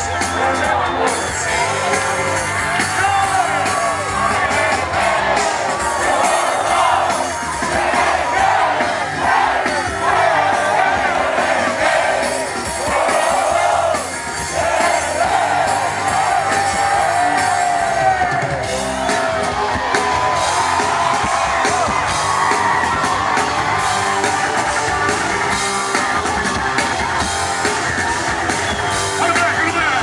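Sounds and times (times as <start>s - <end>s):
drums beating steady rhythm: 0.0s - 30.0s
guitar: 0.0s - 30.0s.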